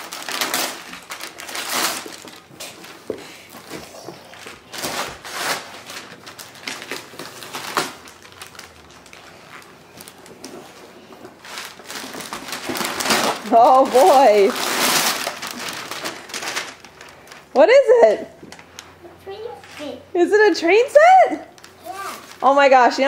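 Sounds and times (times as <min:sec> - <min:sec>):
wrapping paper tearing and crinkling: 0:00.0 - 0:17.6, 0:21.5 - 0:22.8.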